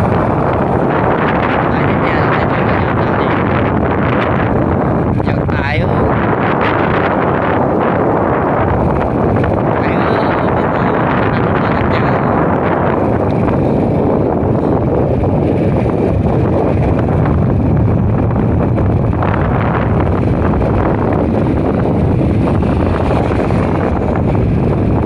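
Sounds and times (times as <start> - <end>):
scooter engine and road noise: 0.0 - 25.0
wind rushing over microphone: 0.0 - 25.0.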